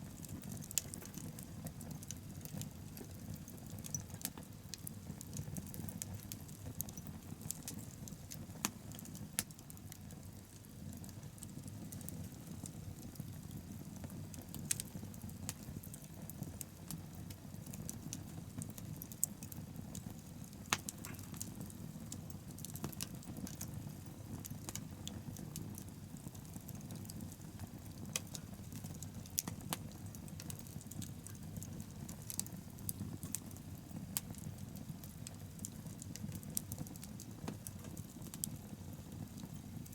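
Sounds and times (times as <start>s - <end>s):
bonfire rumbling and crackling: 0.0s - 39.9s.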